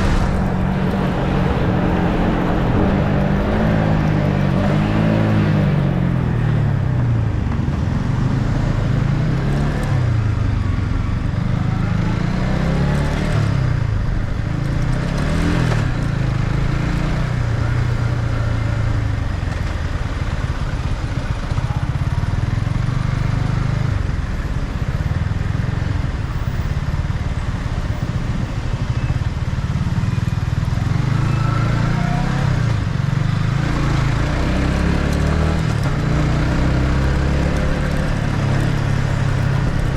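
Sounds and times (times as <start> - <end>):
motorcycle engine revving: 0.0 - 24.1, 30.6 - 39.9
wind and road noise: 0.0 - 39.9.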